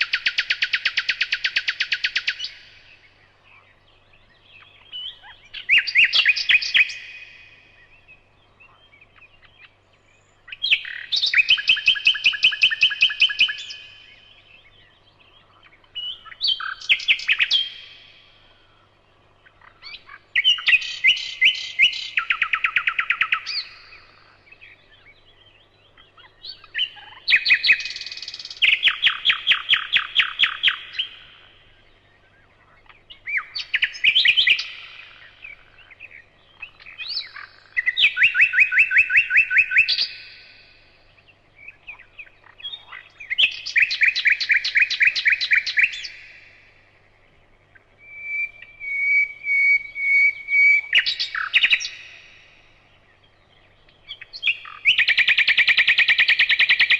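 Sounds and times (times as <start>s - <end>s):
songbird trilling: 0.0s - 56.9s.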